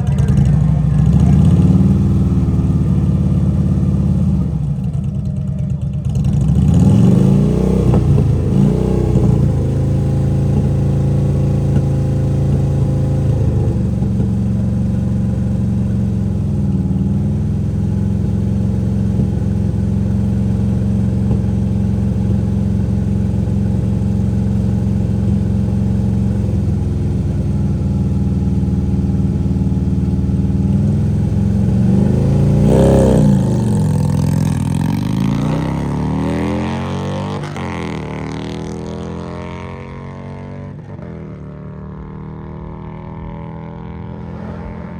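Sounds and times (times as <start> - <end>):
drag-race car engines revving: 0.0 - 5.0, 5.8 - 44.9.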